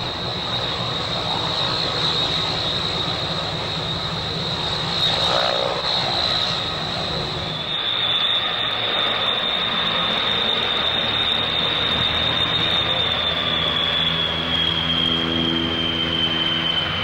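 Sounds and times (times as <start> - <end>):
turboprop engines whining: 0.0 - 17.0.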